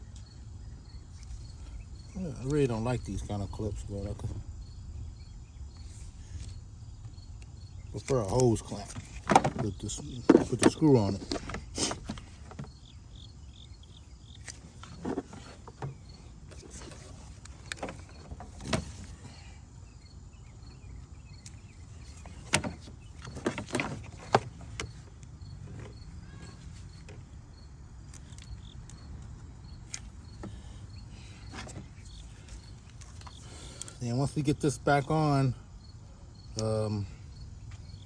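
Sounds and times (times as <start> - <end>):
faint insects chirping: 0.0 - 38.0
low steady hum: 0.0 - 38.0.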